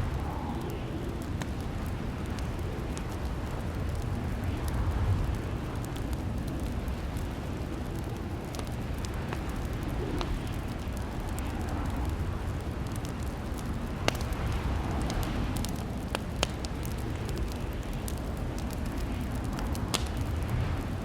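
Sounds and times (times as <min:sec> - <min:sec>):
fire popping: 0:00.0 - 0:21.0
wood fire crackling: 0:00.0 - 0:21.0.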